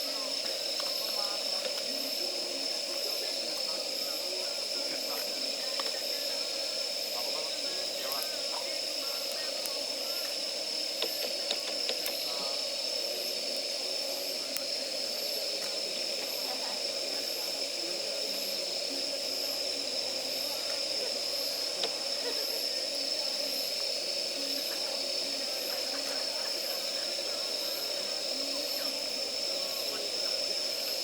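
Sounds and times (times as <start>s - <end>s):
campfire hissing: 0.0s - 31.0s
fire crackles: 0.0s - 31.0s
insects chirping: 0.0s - 31.0s.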